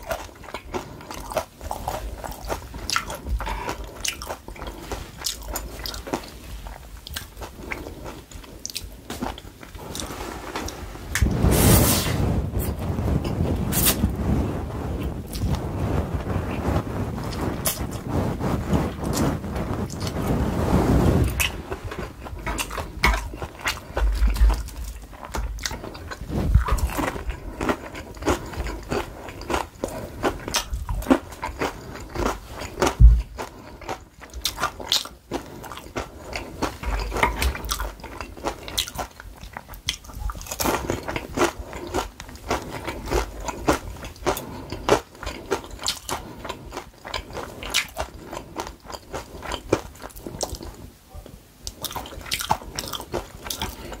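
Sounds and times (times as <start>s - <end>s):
crunching and chewing food: 0.0s - 11.6s, 12.2s - 54.0s.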